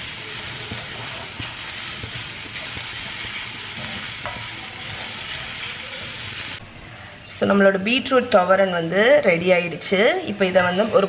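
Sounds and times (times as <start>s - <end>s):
vegetables sizzling in a pan: 0.0s - 6.6s, 7.5s - 11.0s.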